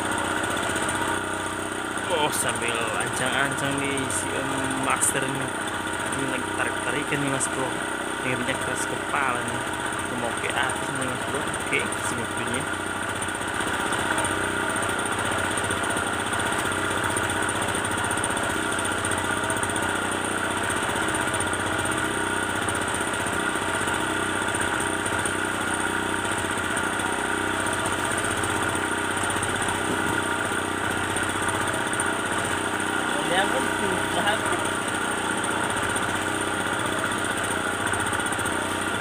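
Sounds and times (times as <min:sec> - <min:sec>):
small boat engine running: 0:00.0 - 0:39.0.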